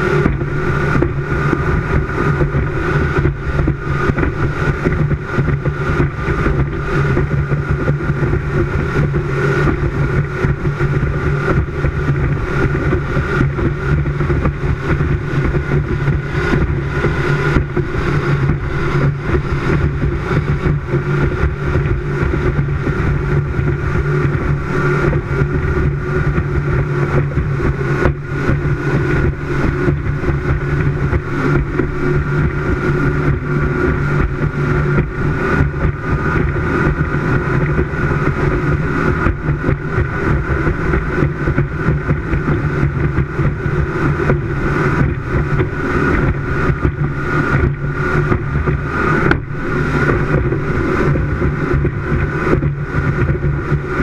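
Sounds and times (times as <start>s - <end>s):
rushing wind and water: 0.0s - 54.0s
speedboat engine drone: 0.0s - 54.0s.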